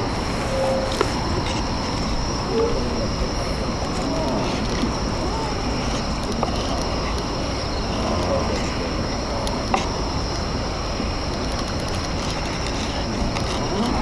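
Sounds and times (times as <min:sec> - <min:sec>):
constant high hiss: 0:00.0 - 0:14.0.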